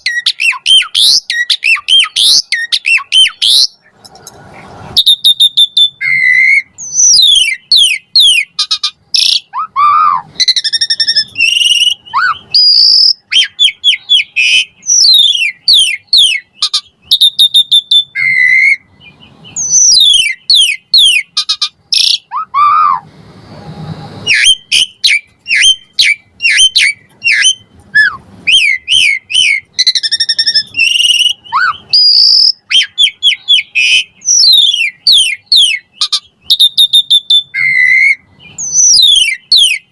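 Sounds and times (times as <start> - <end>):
starling singing: 0.0 - 4.0, 5.0 - 23.1, 24.2 - 39.9.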